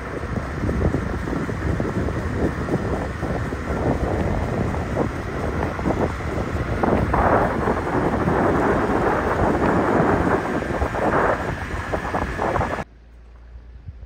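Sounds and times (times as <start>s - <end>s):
loud fluctuating rumbling: 0.0s - 12.8s.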